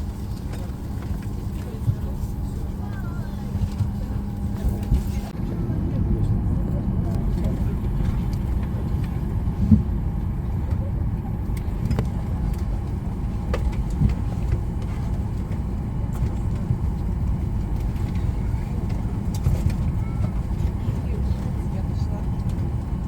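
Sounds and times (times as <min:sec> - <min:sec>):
vehicle rumble from inside cabin: 0:00.0 - 0:23.0.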